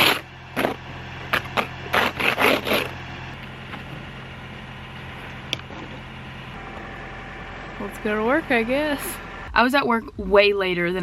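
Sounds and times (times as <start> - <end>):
ice scraper scraping car: 0.0 - 9.5
car engine idling: 0.0 - 9.8.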